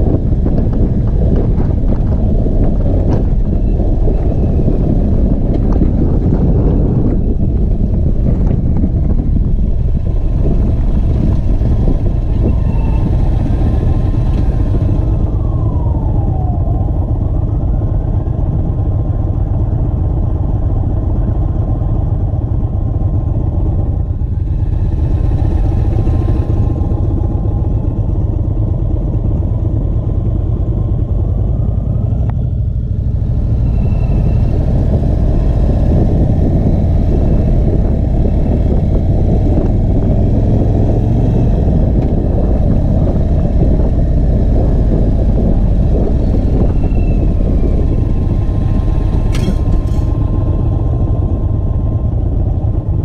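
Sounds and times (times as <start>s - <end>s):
motorcycle engine rumble: 0.0s - 53.0s
wind buffeting microphone: 0.0s - 53.0s.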